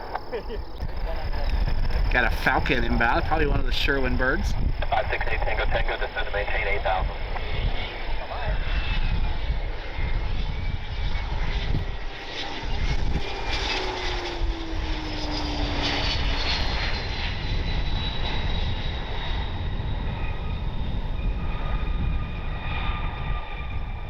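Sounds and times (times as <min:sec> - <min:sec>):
jet engines passing with whine: 0:00.0 - 0:24.0.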